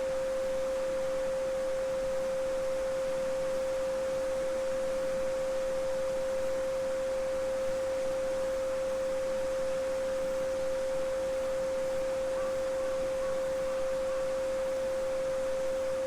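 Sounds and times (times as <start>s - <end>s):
pure sine tone: 0.0s - 16.0s.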